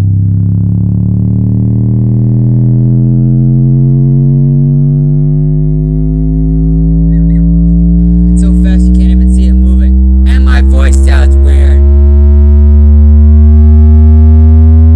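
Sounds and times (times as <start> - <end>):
deep bass tone rising: 0.0 - 14.9.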